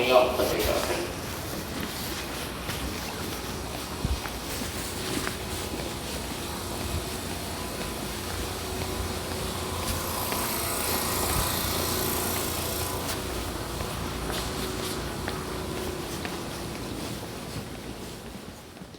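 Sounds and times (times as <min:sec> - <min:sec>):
electric train humming: 0:00.0 - 0:18.9.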